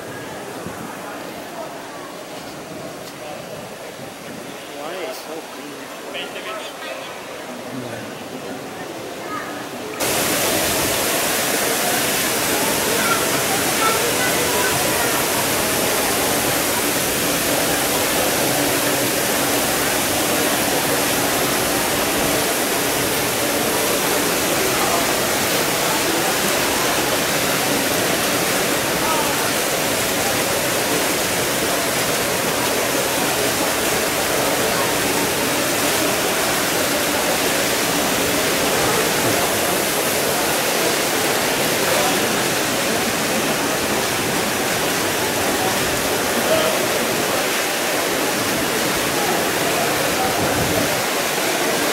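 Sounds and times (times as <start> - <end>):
fountain water splashing into pool: 7.3 - 51.9.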